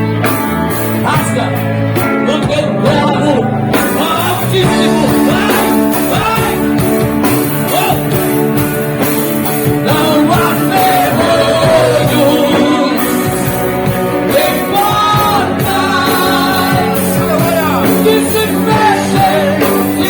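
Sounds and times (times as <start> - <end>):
rock band playing: 0.0 - 20.0
person singing lead vocals: 0.9 - 20.0.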